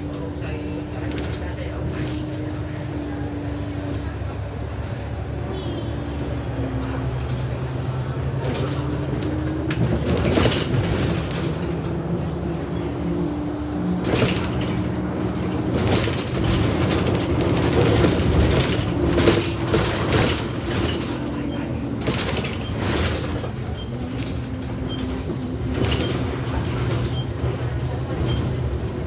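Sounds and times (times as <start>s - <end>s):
bus engine hum: 0.0s - 29.0s.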